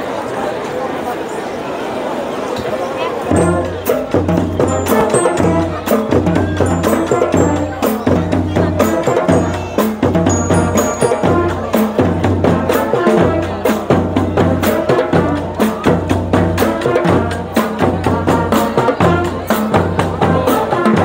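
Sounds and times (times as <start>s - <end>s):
bass drum and percussion beat: 3.3s - 21.0s
marching band brass melody: 3.3s - 21.0s.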